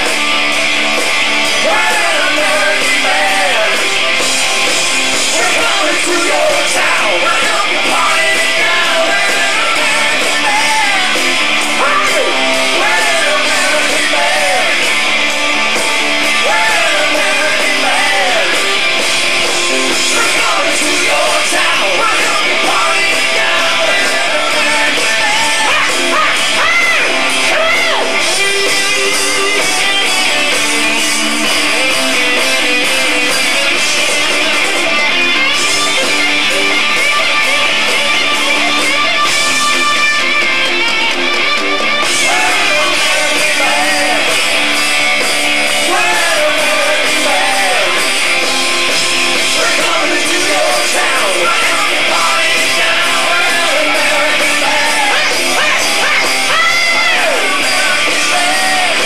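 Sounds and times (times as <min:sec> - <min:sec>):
bass: 0:00.0 - 0:59.0
drums: 0:00.0 - 0:59.0
electric guitars: 0:00.0 - 0:59.0.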